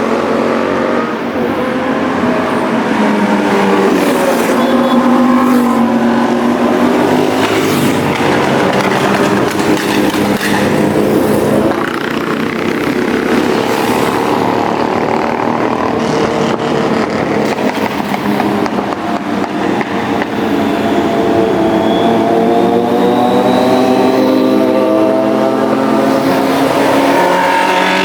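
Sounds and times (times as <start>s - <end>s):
motorcycle engines revving past: 0.0s - 28.0s.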